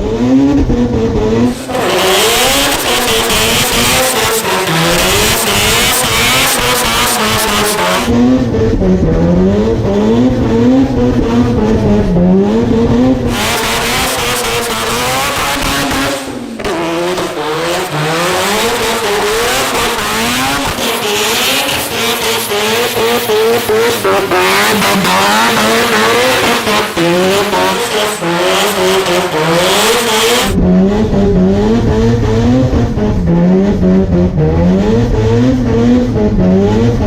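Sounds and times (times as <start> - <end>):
car engine revving hard: 0.0 - 37.0.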